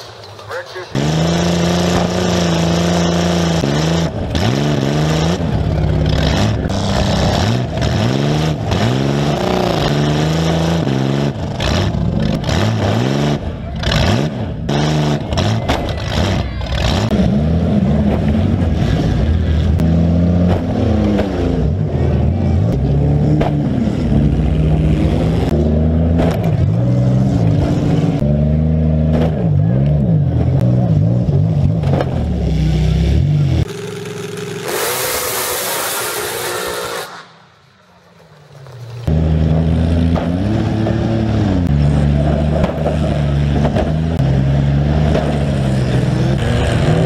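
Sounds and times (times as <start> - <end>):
car engine revving: 0.5 - 47.0.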